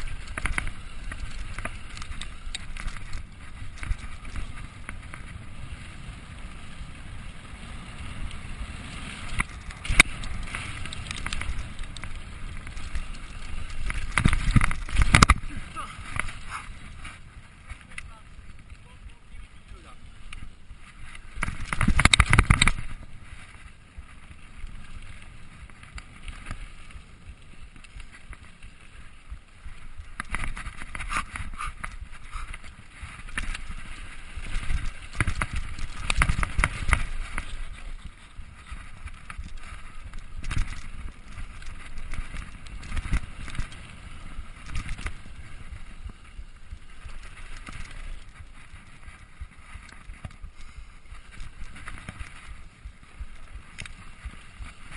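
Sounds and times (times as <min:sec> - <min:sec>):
bike rattling over bumps: 0:00.0 - 0:54.9
bike tyres on dirt trail: 0:00.0 - 0:54.9.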